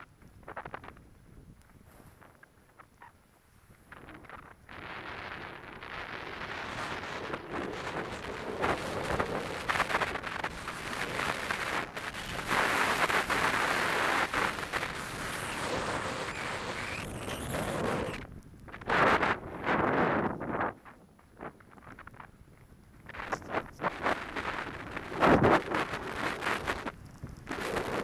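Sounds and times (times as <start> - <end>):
wind buffeting microphone: 0.0 - 28.0
skis scraping on snow: 0.2 - 2.5, 3.4 - 18.2, 18.8 - 28.0.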